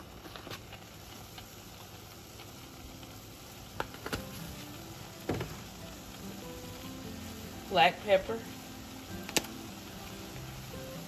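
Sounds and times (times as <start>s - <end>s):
faint sizzle in skillet: 0.0s - 11.0s.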